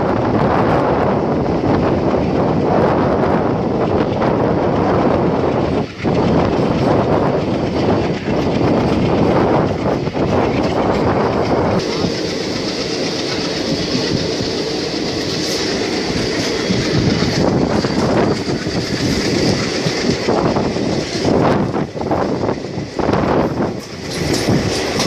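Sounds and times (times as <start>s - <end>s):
rushing air: 0.0s - 25.0s
train wheels rumbling on rails: 0.0s - 25.0s.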